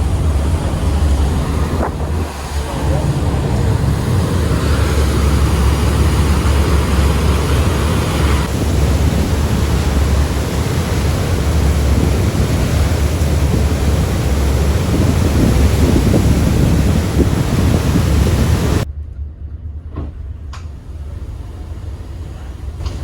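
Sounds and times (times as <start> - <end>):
wind rushing over microphone: 0.0 - 18.9
low rumble of ferry: 0.0 - 23.0.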